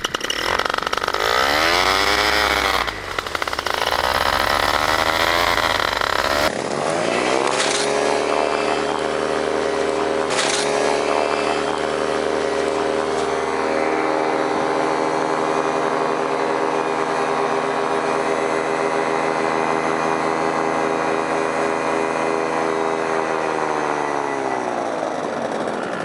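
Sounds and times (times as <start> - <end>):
paramotor engine and propeller: 0.0 - 26.0.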